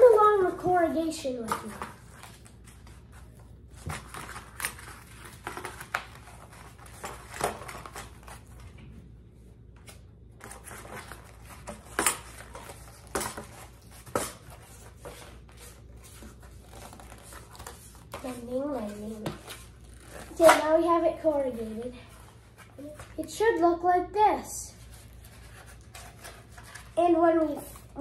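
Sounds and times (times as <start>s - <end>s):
cardboard crackling: 0.0s - 8.8s, 9.8s - 23.3s, 24.8s - 28.0s.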